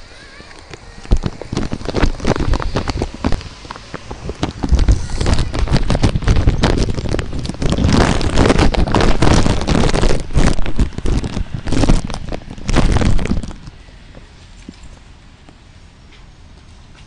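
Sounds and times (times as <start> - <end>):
crackling and rumbling on microphone: 0.0 - 15.6.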